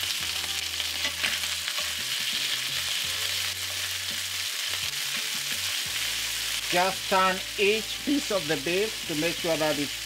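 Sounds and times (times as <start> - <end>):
steak sizzling in frying pan: 0.0 - 10.0.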